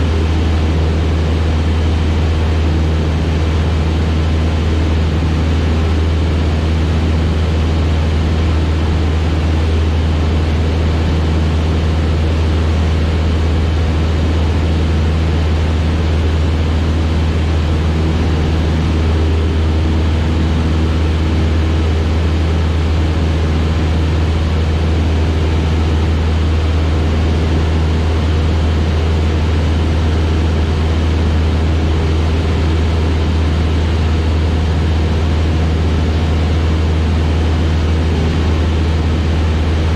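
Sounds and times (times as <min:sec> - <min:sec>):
airplane engine droning in cabin: 0:00.0 - 0:39.9.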